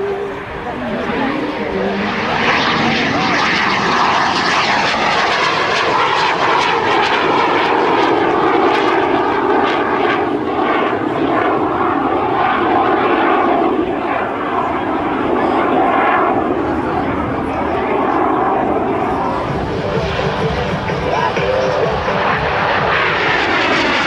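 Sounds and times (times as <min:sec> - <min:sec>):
jet engine running loudly: 0:00.0 - 0:24.0.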